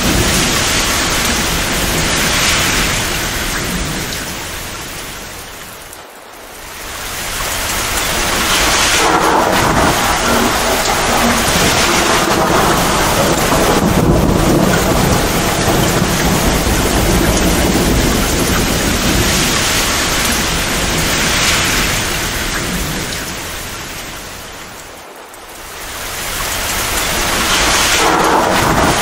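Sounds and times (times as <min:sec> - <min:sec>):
rumbling thunder: 0:00.0 - 0:05.4, 0:07.0 - 0:24.3, 0:26.5 - 0:29.0
heavy rain: 0:00.0 - 0:29.0.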